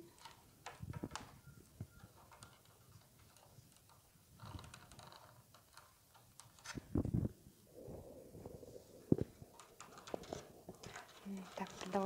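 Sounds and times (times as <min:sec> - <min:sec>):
paper tubes rustling: 0:00.0 - 0:12.0.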